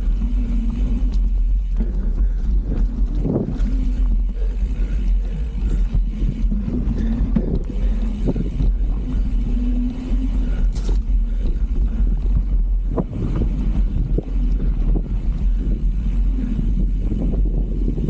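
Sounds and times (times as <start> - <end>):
bike knocking and rattling: 0.0 - 18.0
wind buffeting microphone: 0.0 - 18.0.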